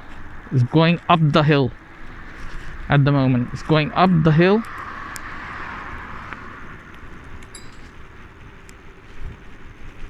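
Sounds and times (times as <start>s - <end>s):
wind and road noise rumble: 0.0s - 10.0s.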